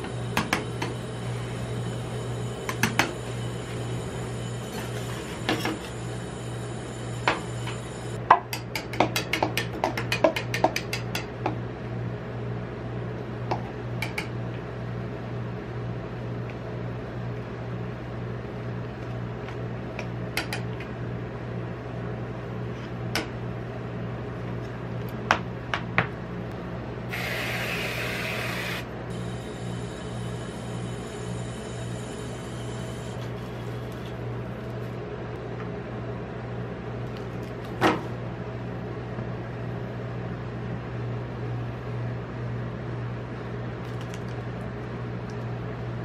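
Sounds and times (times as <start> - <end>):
low machine hum: 0.0 - 9.9, 10.7 - 46.0.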